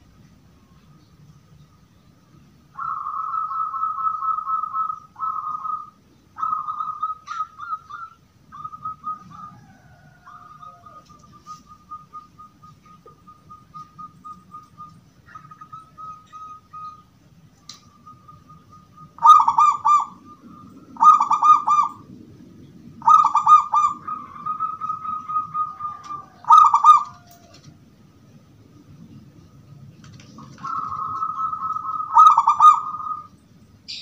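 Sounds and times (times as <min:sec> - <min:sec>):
dove cooing: 0:02.8 - 0:17.1, 0:17.7 - 0:27.9, 0:30.2 - 0:34.0.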